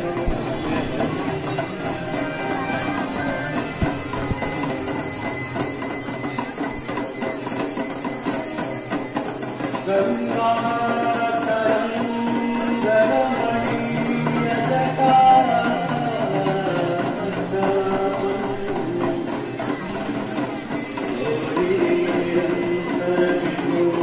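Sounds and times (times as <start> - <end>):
devotional singing: 0.0 - 5.2, 9.8 - 24.0
hand bells ringing: 0.0 - 24.0.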